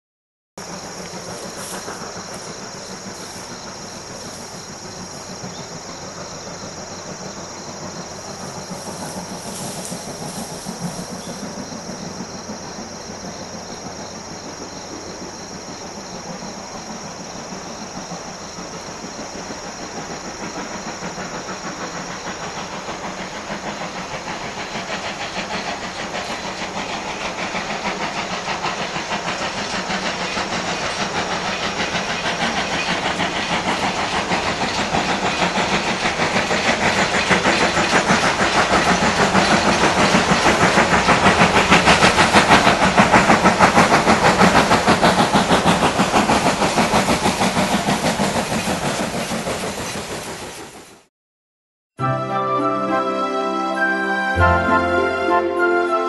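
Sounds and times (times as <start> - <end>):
steam hiss: 0.6 - 51.1
steam locomotive chuffing: 0.6 - 51.1, 52.6 - 56.0
train wheel clatter: 0.6 - 51.1.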